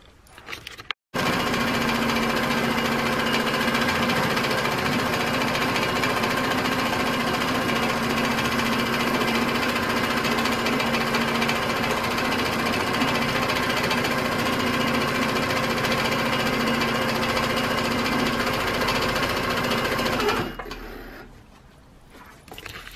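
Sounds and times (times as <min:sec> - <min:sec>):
quilting machine stitching: 0:01.2 - 0:21.3.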